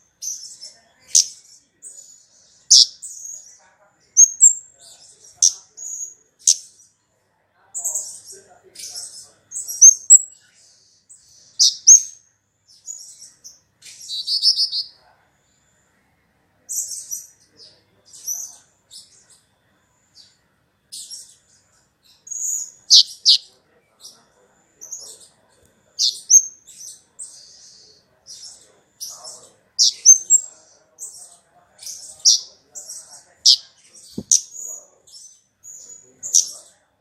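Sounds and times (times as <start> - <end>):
bird high-pitched chirps and trills: 0.0 - 7.0, 7.8 - 15.8, 16.7 - 36.9.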